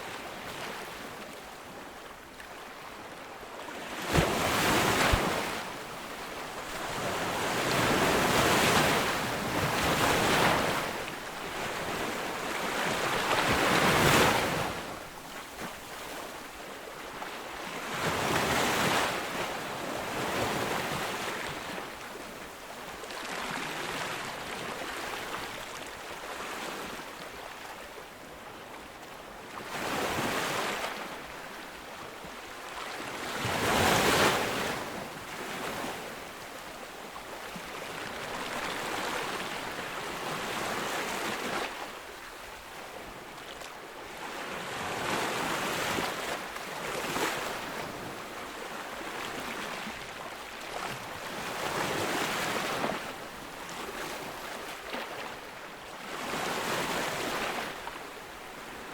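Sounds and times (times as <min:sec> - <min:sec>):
ocean waves breaking on a beach: 0:00.0 - 0:58.9.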